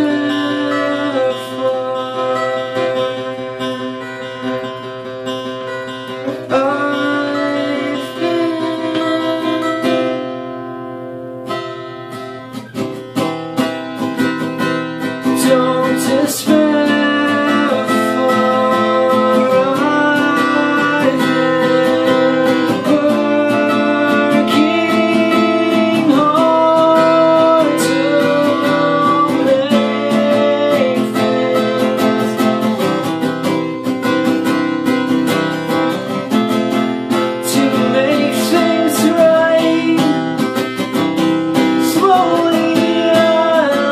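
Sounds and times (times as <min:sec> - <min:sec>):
man singing: 0:00.0 - 0:03.8, 0:06.2 - 0:10.3, 0:15.2 - 0:33.6, 0:34.9 - 0:43.9
acoustic guitar strumming: 0:00.0 - 0:43.9.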